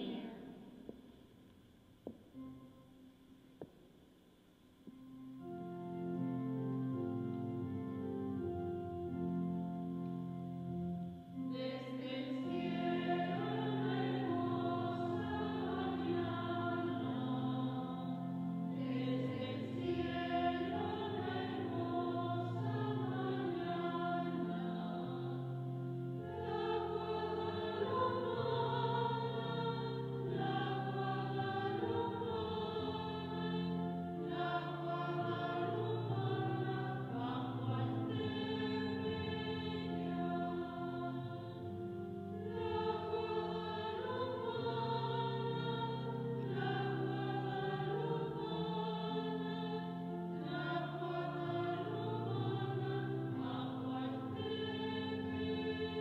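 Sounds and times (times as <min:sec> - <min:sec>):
choir singing a hymn: 0:00.0 - 0:00.8, 0:05.4 - 0:56.0
held accompaniment chords: 0:02.1 - 0:56.0.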